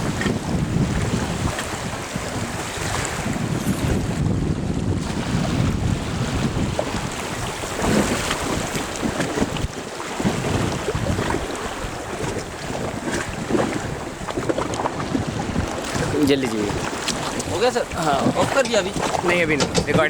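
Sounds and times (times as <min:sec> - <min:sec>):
river water splashing: 0:00.0 - 0:20.0
wind buffeting microphone: 0:00.0 - 0:20.0.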